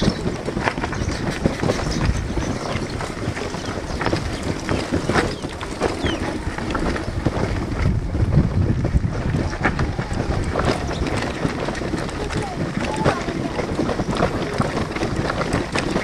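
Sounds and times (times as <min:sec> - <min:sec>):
knocks and rattles: 0:00.0 - 0:16.0
wind buffeting microphone: 0:00.0 - 0:16.0.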